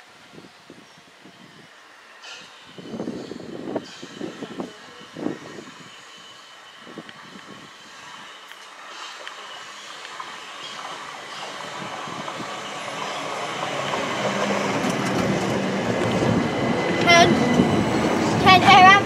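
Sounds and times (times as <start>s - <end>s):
train wheels and running gear: 1.9s - 19.0s.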